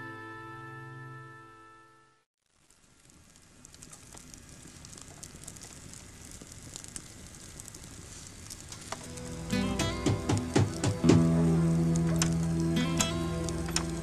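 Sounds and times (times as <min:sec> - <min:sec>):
crackling hiss with sharp pops: 0:02.4 - 0:14.0.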